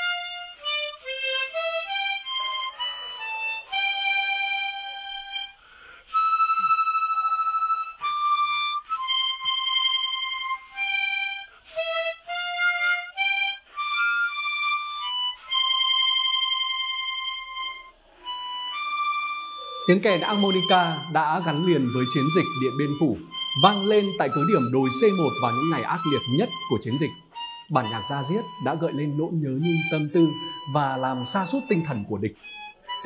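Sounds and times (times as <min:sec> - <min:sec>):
harmonica playing slow melody: 0:00.0 - 0:33.0.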